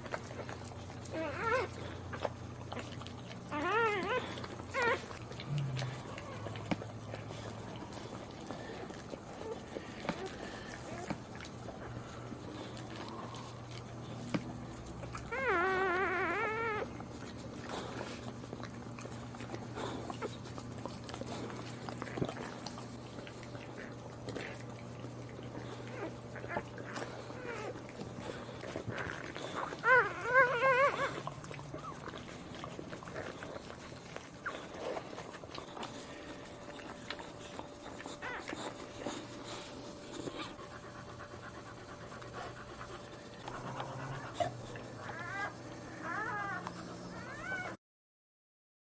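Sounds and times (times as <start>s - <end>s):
dog whining: 0.0s - 20.6s, 21.4s - 47.8s
dog panting: 0.0s - 47.8s
puppies squeaking and whimpering: 0.0s - 47.8s
steady low hum: 0.0s - 47.8s.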